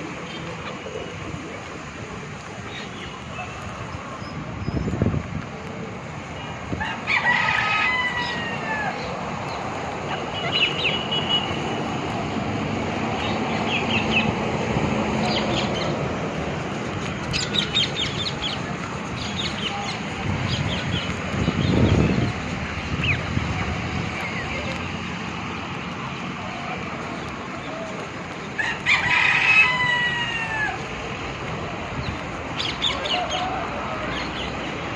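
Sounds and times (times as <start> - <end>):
birds calling: 6.2 - 34.9.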